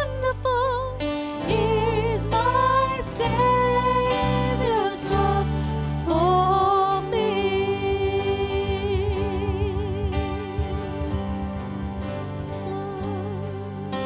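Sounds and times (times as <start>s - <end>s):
person singing worship song: 0.0s - 11.2s, 12.4s - 14.0s
sustained chords: 0.0s - 14.0s.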